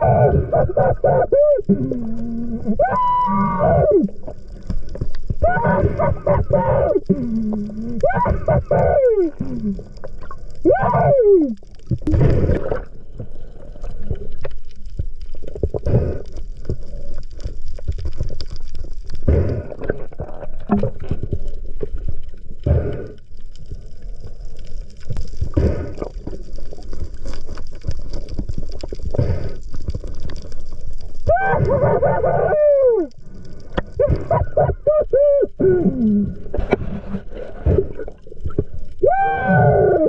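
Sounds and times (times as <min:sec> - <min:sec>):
underwater churn and gurgle: 0:00.0 - 0:40.0.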